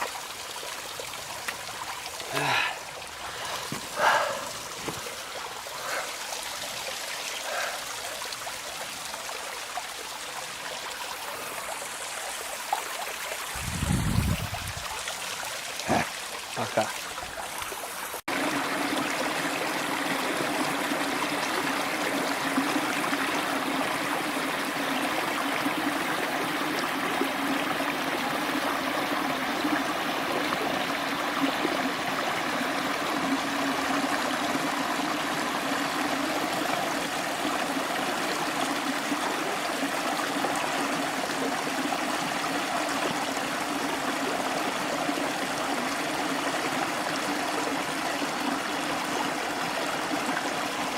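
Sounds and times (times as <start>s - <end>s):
running water of a stream: 0.0s - 50.9s.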